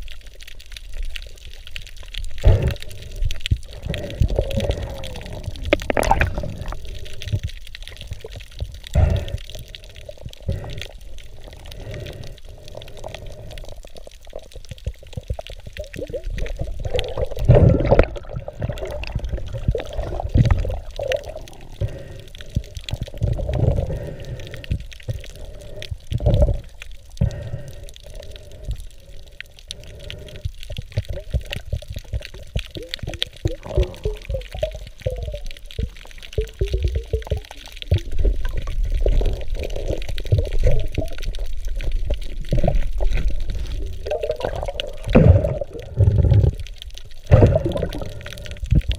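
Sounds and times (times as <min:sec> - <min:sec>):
water rushing and bubbling: 0:00.0 - 0:48.9.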